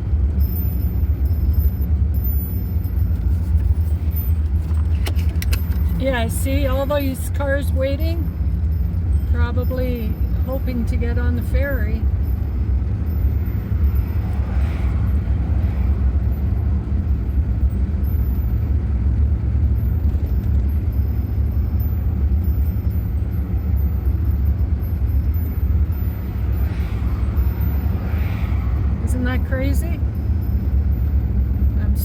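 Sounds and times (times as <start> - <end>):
road noise: 0.0 - 32.0
van engine rumble: 0.0 - 32.0.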